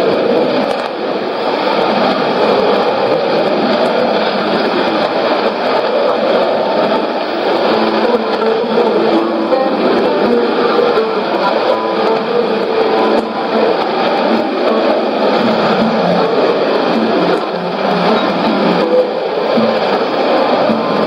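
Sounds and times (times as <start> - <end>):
faint music tones: 0.0 - 21.0
radio static: 0.0 - 21.0.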